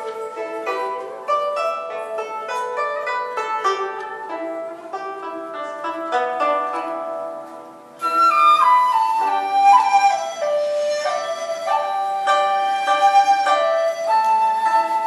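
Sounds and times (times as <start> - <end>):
bamboo flute melody: 0.0 - 15.0
plucked zither accompaniment: 0.0 - 15.0.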